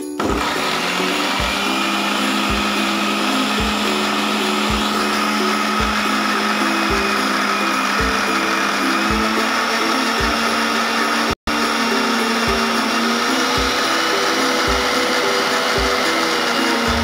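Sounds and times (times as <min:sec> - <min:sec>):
mixer grinder blending fruit: 0:00.0 - 0:17.0.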